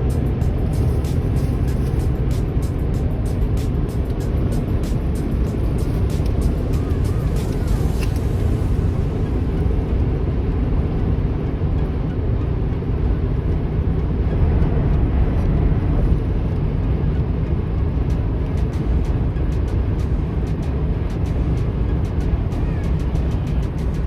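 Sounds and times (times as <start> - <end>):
car driving road rumble: 0.0 - 24.0.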